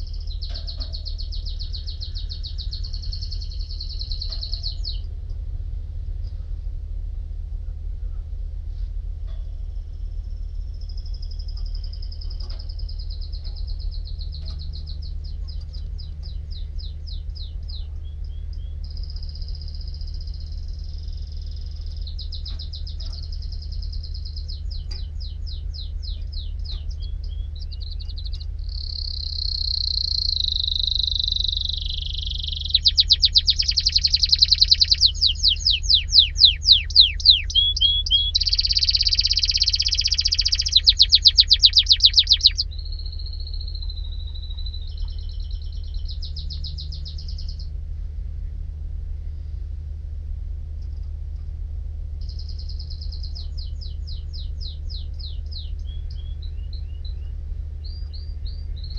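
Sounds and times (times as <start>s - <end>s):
canary singing trills: 0.0s - 5.2s, 9.8s - 48.4s, 52.1s - 58.9s
steady low hum: 0.0s - 58.9s.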